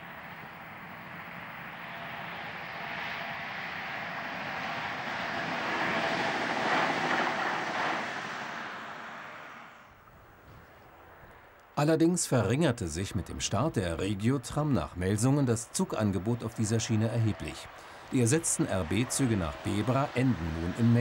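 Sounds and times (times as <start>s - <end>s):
electric tram passing: 0.0s - 11.6s, 12.9s - 21.0s.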